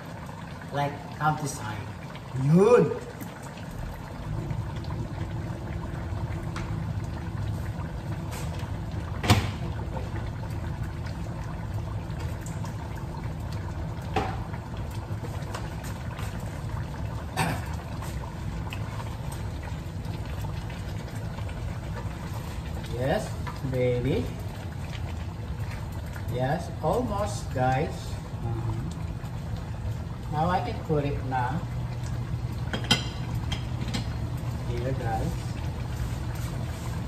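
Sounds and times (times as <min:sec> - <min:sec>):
sauce boiling in a wok: 0:00.0 - 0:37.0.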